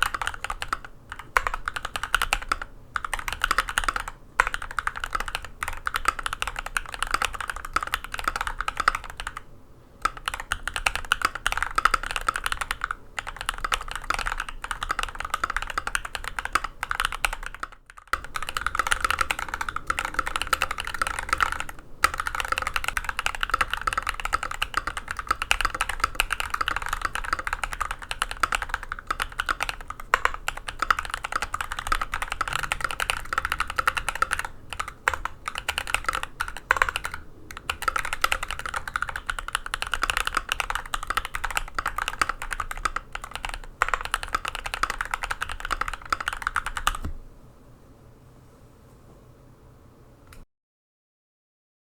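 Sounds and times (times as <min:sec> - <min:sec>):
typing on mechanical keyboard: 0:00.0 - 0:47.2.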